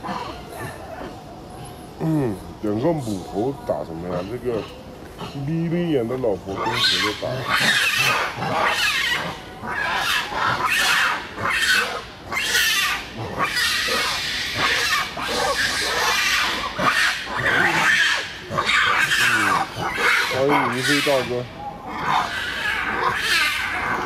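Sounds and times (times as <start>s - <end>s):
monkeys screaming: 0.0s - 24.0s.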